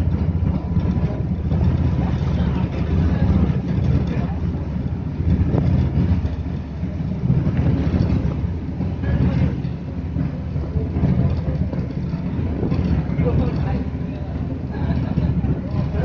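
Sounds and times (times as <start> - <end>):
ferry engine droning: 0.0 - 16.0.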